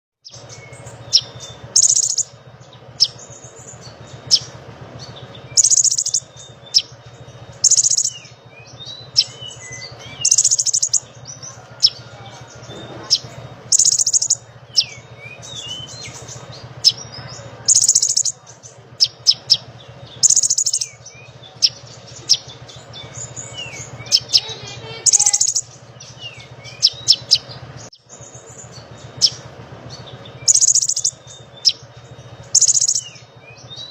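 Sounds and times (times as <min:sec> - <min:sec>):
songbird trills and whistles: 0:00.2 - 0:33.9
steady low hum: 0:00.2 - 0:33.9.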